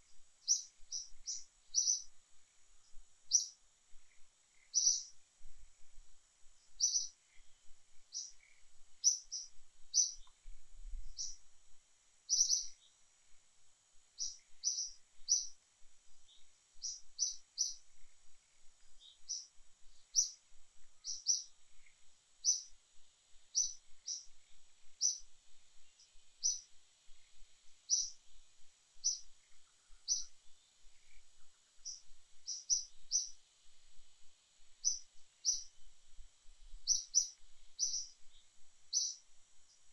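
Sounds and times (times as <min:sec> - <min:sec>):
faint steady high hiss: 0:00.0 - 0:39.9
bird chirping: 0:00.1 - 0:05.2, 0:06.6 - 0:11.5, 0:12.3 - 0:13.0, 0:14.2 - 0:15.6, 0:16.2 - 0:22.8, 0:23.5 - 0:28.4, 0:29.0 - 0:33.4, 0:34.8 - 0:35.9, 0:36.8 - 0:39.9.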